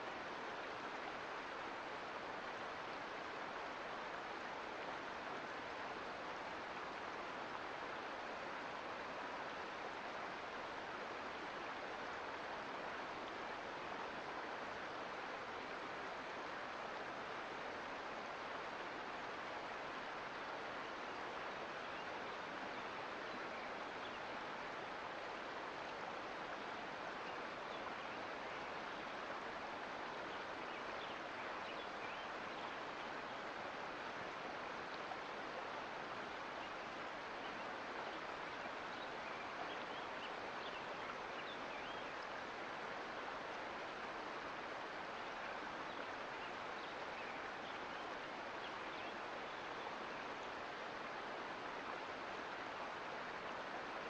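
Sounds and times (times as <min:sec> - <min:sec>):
creek flowing over rocks: 0:00.0 - 0:54.0.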